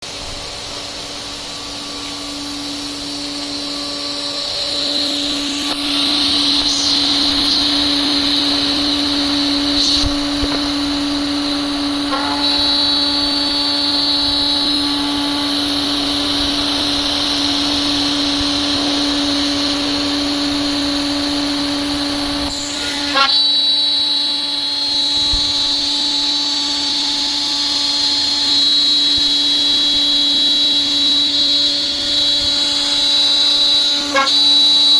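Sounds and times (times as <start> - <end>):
router spindle milling metal: 0.1 - 34.9.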